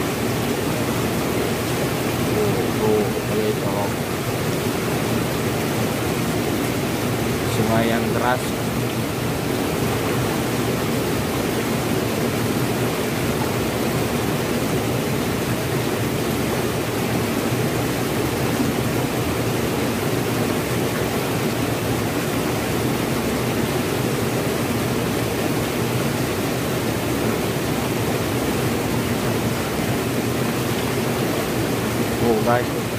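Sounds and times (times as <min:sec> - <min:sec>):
floodwater rushing over rocks: 0:00.0 - 0:32.9.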